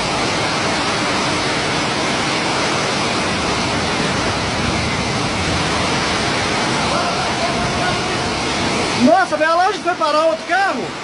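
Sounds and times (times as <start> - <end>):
floodwater rushing down street: 0.0 - 11.0.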